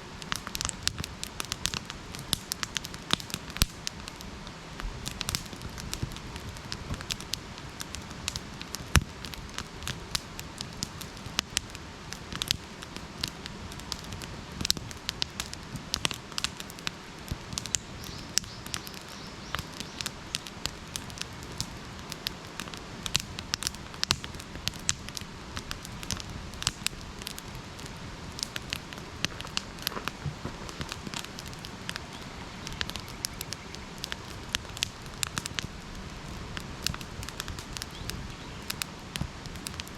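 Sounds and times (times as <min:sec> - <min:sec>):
campfire crackling and popping: 0:00.0 - 0:39.9
fire hissing: 0:00.0 - 0:39.9.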